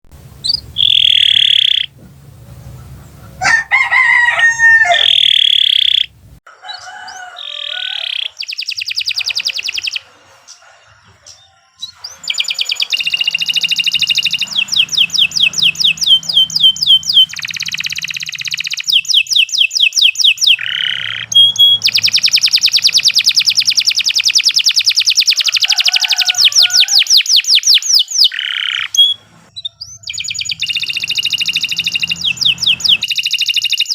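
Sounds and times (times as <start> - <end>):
canary singing trills: 0.4 - 33.9.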